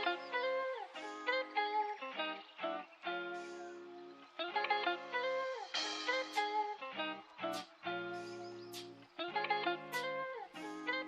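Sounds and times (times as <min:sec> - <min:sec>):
plucked guitar notes: 0:00.0 - 0:11.0.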